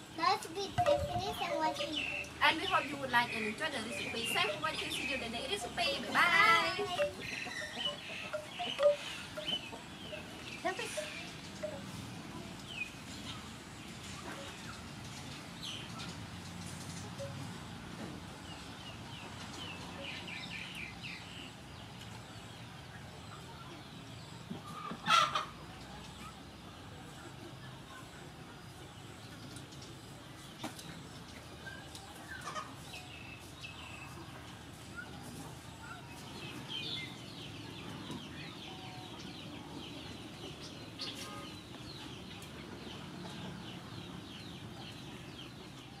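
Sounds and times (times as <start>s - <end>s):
chickens clucking: 0.0s - 46.0s
small birds chirping: 0.0s - 46.0s.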